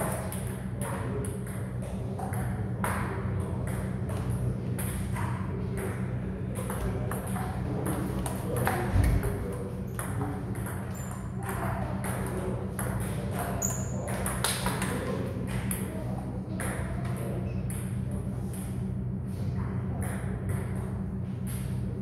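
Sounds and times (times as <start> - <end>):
low hum of hall: 0.0 - 22.0.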